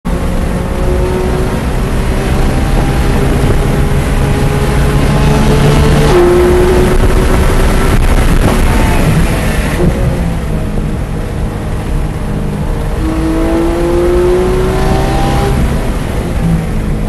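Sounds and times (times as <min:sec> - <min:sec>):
car engine at full throttle: 0:00.0 - 0:17.0
road and wind rumble: 0:00.0 - 0:17.0.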